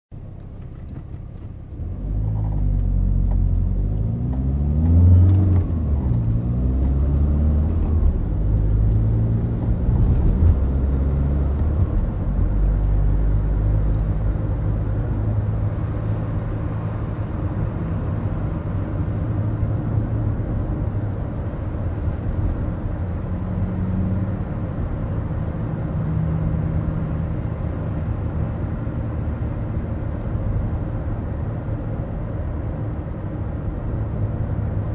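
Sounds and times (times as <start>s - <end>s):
diesel car engine: 0.1s - 34.9s
road noise: 0.1s - 34.9s.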